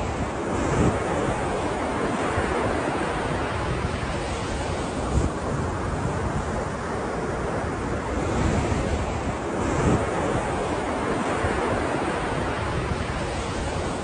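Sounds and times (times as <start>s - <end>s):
ocean waves breaking: 0.0s - 14.0s
wind buffeting microphone: 0.0s - 14.0s.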